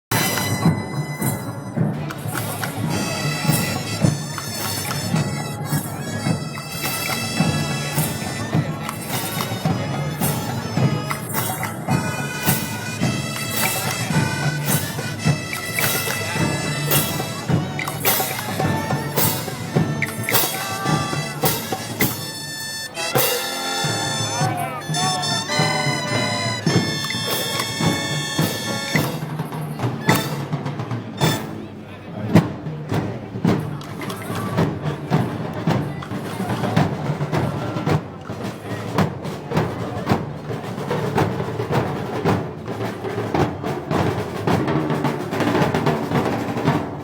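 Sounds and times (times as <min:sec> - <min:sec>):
drum beats: 0:00.0 - 0:47.0.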